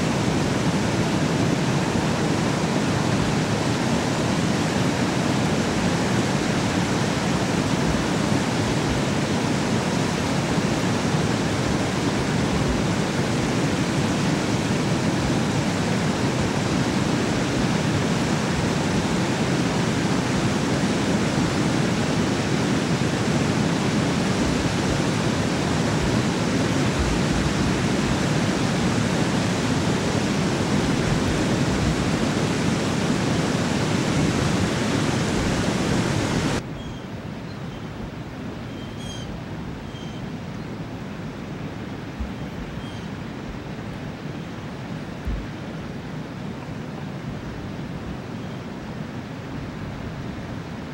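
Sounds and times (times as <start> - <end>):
water rushing through dam gates: 0.0 - 36.6, 37.9 - 50.9.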